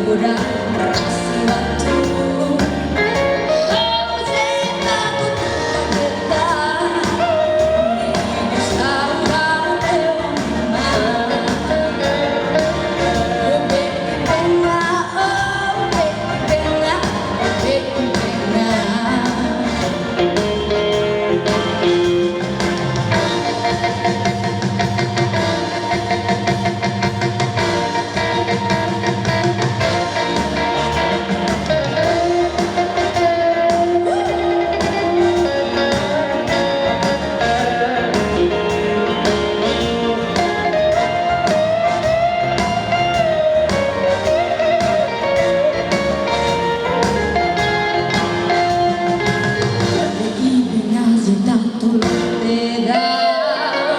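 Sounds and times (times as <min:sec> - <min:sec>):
woman singing: 0:00.0 - 0:22.3, 0:31.8 - 0:45.3, 0:46.5 - 0:53.9
drum kit beat: 0:00.0 - 0:51.0, 0:52.0 - 0:52.6
guitar: 0:00.0 - 0:53.9.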